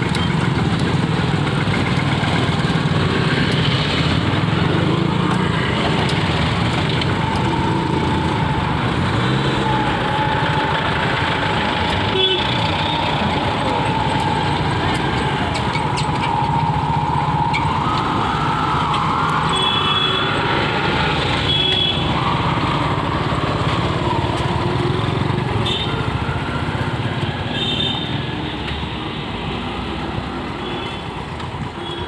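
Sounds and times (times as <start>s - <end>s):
auto-rickshaw engine: 0.0s - 32.0s
motorcycle engines running: 0.0s - 32.0s.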